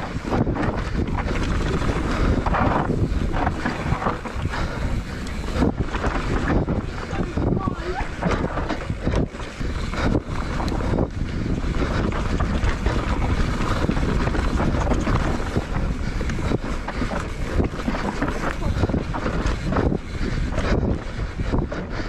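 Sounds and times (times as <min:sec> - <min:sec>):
bike knocking and rattling: 0:00.0 - 0:22.0
bike tyres rolling on dirt: 0:00.0 - 0:22.0
wind on microphone: 0:00.0 - 0:22.0.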